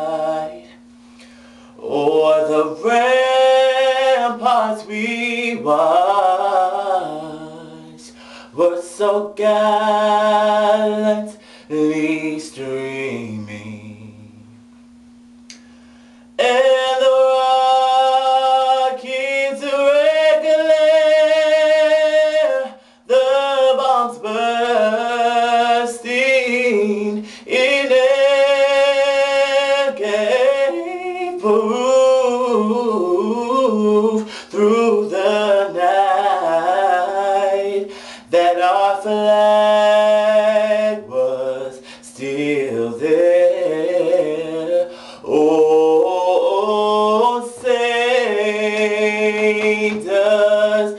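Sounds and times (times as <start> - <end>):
man singing solo: 1.8 - 14.4, 16.4 - 50.9.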